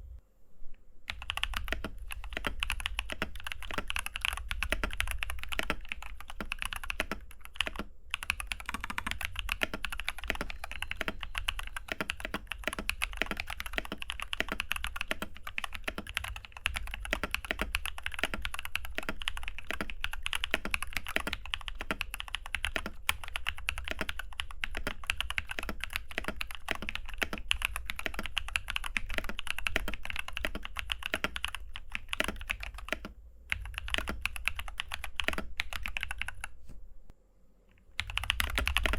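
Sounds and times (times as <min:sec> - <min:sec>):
mechanical keyboard typing: 0:01.1 - 0:36.6, 0:38.0 - 0:38.9.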